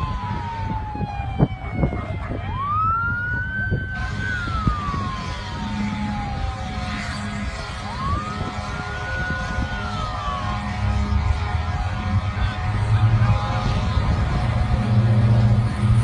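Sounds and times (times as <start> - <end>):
emergency vehicle siren wailing: 0.0 - 16.0.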